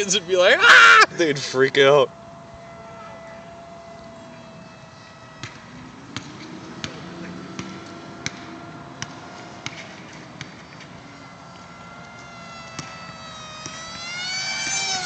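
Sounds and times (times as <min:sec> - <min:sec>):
electric motor whine in flight: 0:00.0 - 0:15.0.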